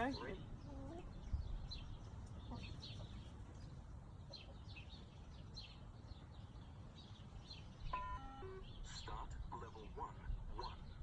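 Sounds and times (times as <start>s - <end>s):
faint low outdoor rumble: 0.0s - 11.0s
small birds chirping: 0.0s - 11.0s.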